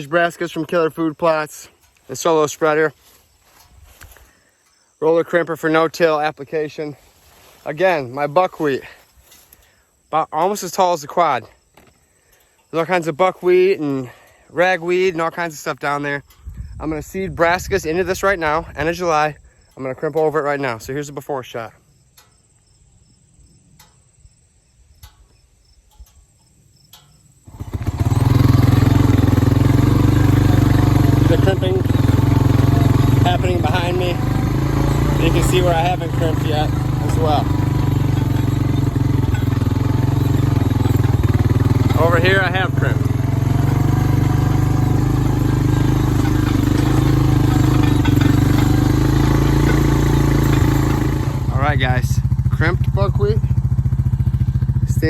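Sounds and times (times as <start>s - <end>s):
atv engine running: 0.0s - 4.5s, 5.1s - 21.7s, 27.4s - 55.0s
insects chirping: 0.0s - 51.5s, 53.4s - 55.0s.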